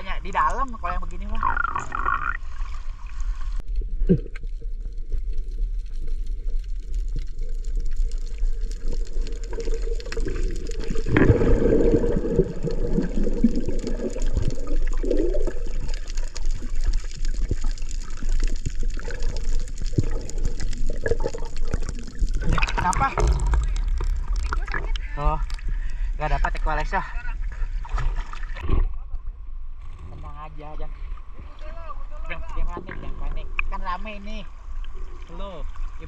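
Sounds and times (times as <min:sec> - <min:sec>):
underwater sloshing and bubbling: 0:00.0 - 0:36.0.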